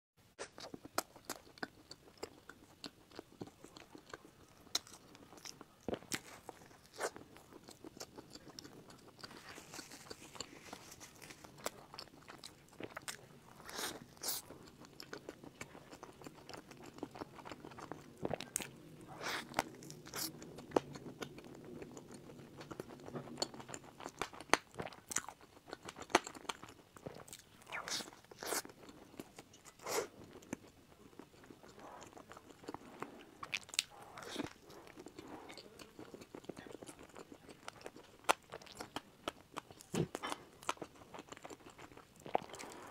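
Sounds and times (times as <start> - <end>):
person chewing: 0.4 - 42.9.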